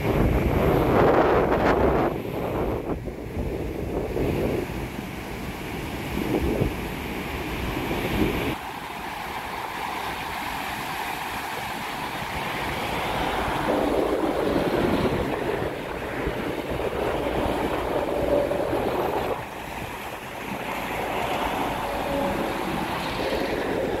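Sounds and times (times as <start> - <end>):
surf breaking on rocky shore: 0.0 - 24.0.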